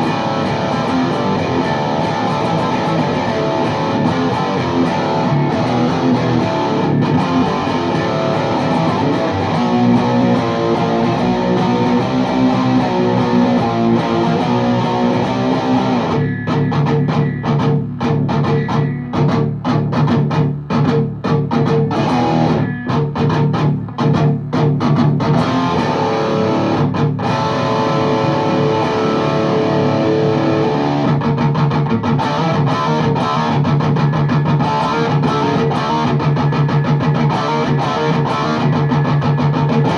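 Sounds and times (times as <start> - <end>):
distorted electric guitar chords: 0.0 - 39.9.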